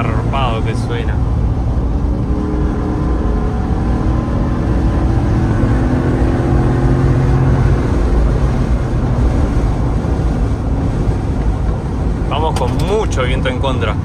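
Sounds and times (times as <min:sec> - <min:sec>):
loud open exhaust engine: 0:00.0 - 0:14.0
road noise: 0:00.0 - 0:14.0.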